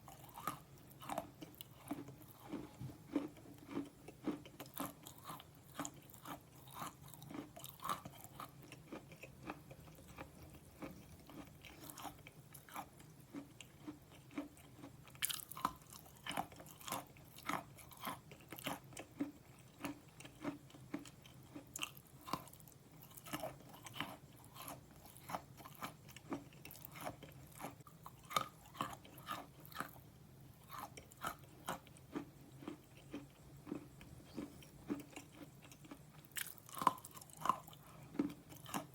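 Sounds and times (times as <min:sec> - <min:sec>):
faint low hum: 0:00.0 - 0:38.9
person chewing crunchily: 0:00.0 - 0:38.9.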